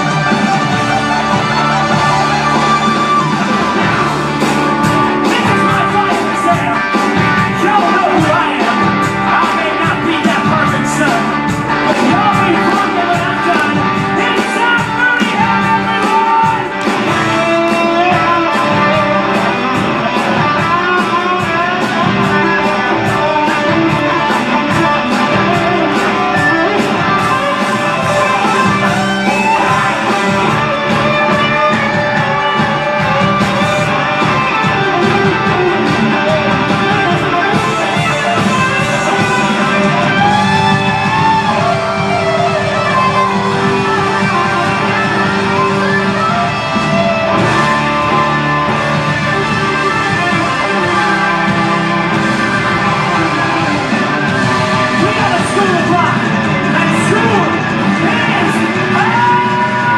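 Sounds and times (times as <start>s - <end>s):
drum beat: 0.0s - 59.9s
electric guitar: 0.0s - 59.9s
person singing: 0.0s - 59.9s.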